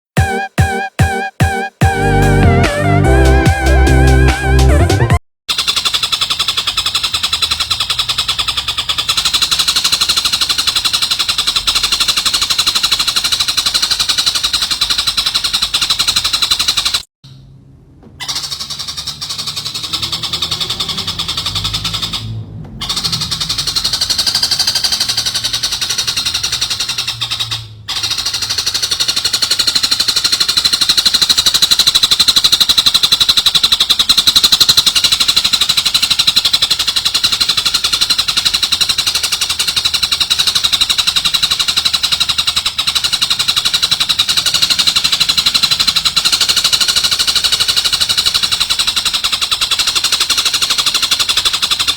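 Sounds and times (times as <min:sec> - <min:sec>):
songbird trilling chatter: 0:05.5 - 0:17.0, 0:18.2 - 0:51.9.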